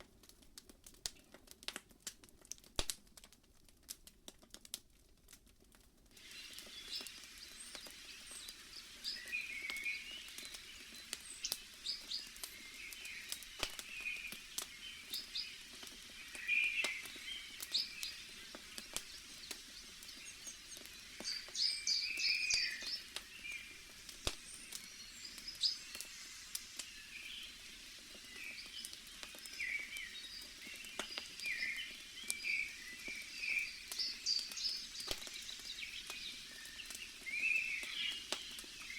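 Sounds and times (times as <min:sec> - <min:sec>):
wood fire crackling: 0:00.0 - 0:38.9
small birds chirping: 0:06.2 - 0:38.9.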